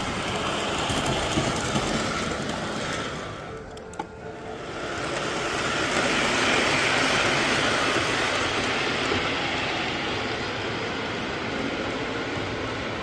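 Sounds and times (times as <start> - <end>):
model train rolling rumble: 0.0 - 13.0.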